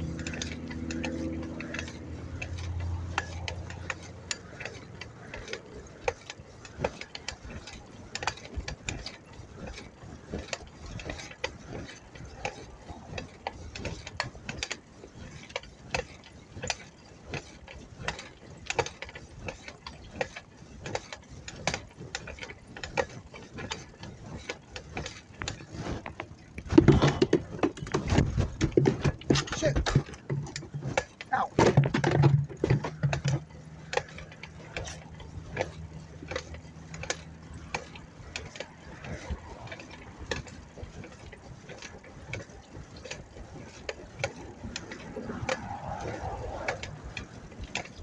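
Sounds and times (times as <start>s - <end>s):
bicycle freewheel and chain clicking: 0.0s - 48.0s.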